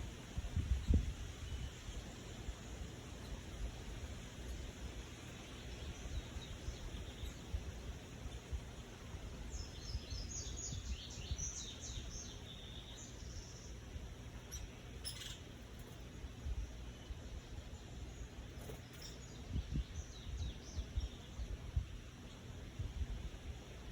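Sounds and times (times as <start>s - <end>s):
bird chirping: 0.8s - 21.6s.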